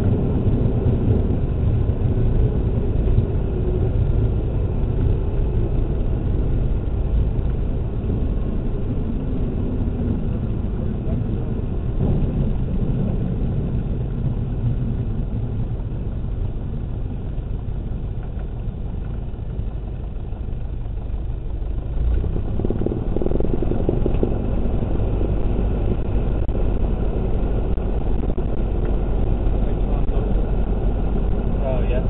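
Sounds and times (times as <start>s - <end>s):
light airplane engine and propeller: 0.0s - 32.0s.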